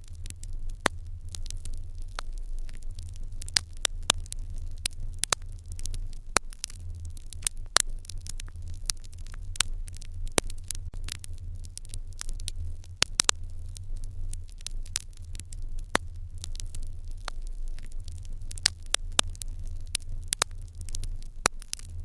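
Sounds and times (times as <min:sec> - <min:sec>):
low rumble: 0:00.0 - 0:22.0
wood fire crackling and popping: 0:00.0 - 0:22.0.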